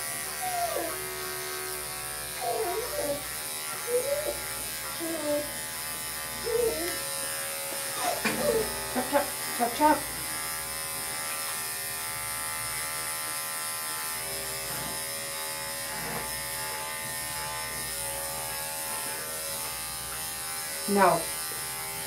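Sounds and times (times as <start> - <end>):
electric clippers buzzing: 0.0 - 22.0.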